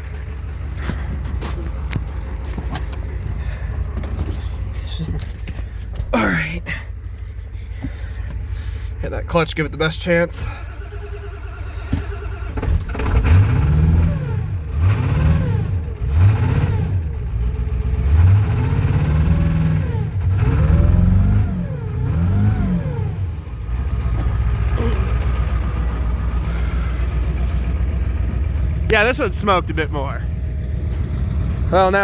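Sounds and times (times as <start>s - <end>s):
diesel engine starting and revving: 0.0s - 32.0s.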